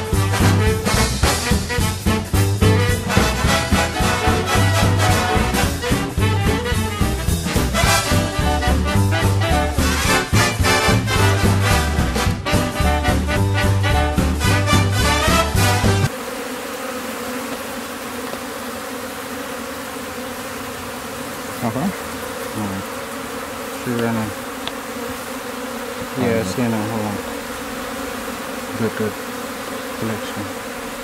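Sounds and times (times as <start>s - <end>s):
bees buzzing: 0.0s - 31.0s.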